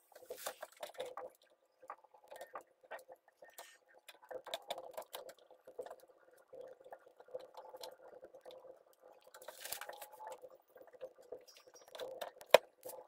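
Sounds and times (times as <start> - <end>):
metal and plastic clicks and rustles: 0.0 - 13.0.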